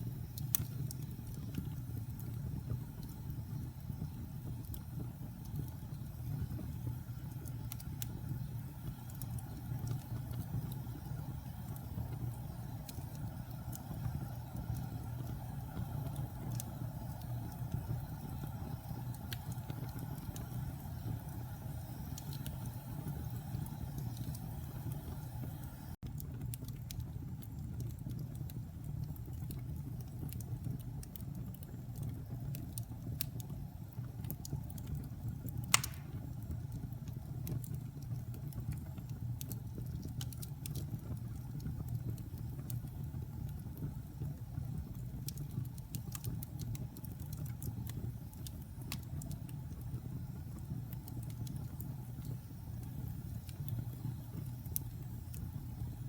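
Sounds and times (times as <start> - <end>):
wood fire rumbling and crackling: 0.0 - 56.0.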